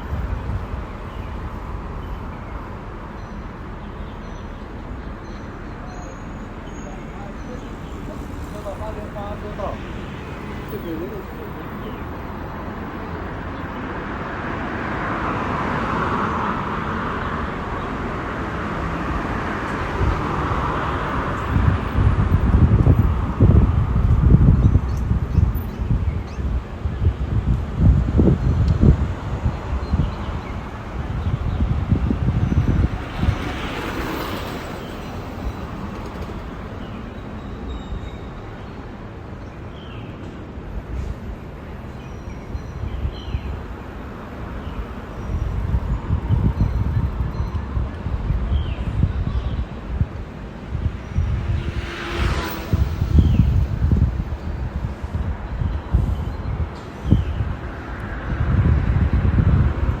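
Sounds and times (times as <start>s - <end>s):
wind buffeting microphone: 0.0s - 3.0s, 6.3s - 60.0s
road traffic rushing: 0.0s - 60.0s.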